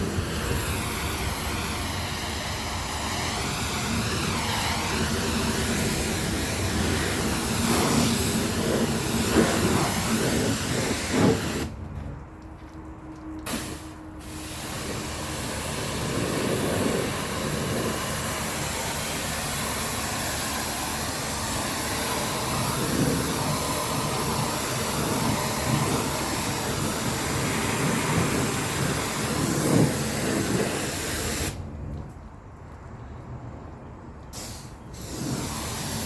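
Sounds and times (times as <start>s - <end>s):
pressure washer spraying water: 0.0s - 11.8s, 13.4s - 31.6s, 34.4s - 36.0s.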